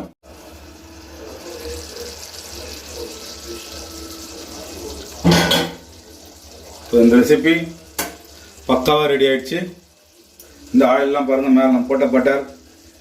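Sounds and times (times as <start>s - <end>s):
gravy sizzling and bubbling: 0.0s - 13.0s.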